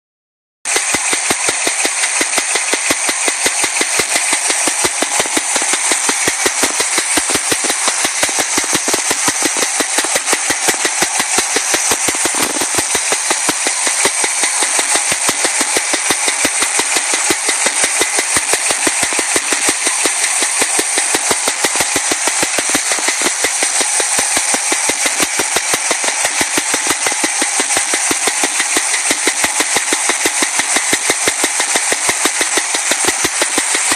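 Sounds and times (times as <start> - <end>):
car engine running with knock: 0.7 - 33.9.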